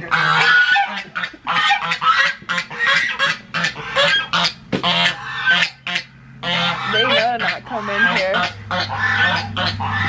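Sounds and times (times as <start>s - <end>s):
ducks and geese calling: 0.0s - 10.0s.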